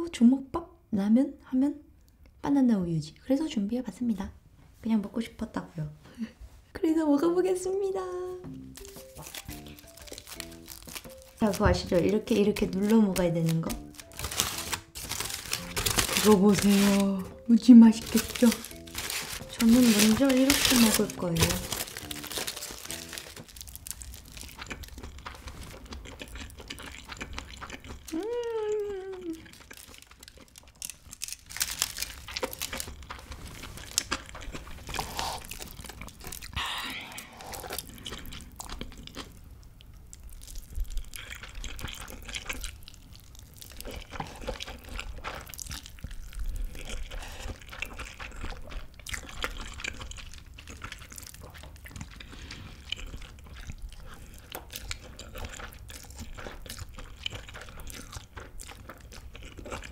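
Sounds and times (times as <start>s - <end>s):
person chewing food: 8.5s - 11.6s, 12.6s - 59.9s.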